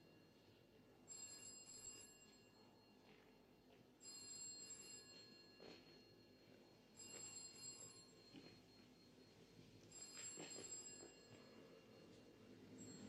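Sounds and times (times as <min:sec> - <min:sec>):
faint telephone ringing: 0:00.0 - 0:13.0.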